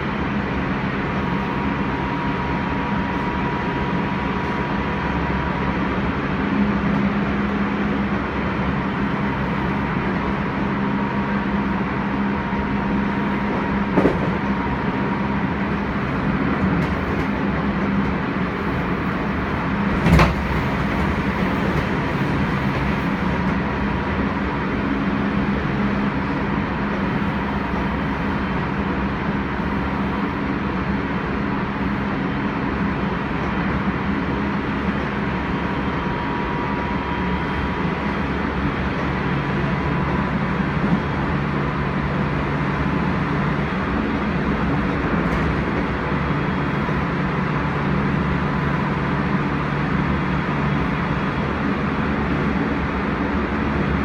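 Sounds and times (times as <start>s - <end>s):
electric train running noise: 0.0s - 54.0s
steady whine: 0.0s - 54.0s.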